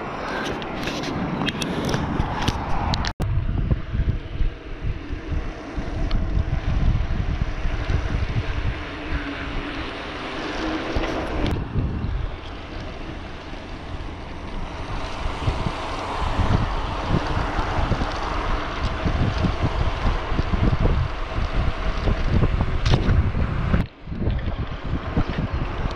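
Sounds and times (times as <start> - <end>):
tyre and road rumble: 0.0 - 25.9
wind buffeting microphone: 0.0 - 25.9.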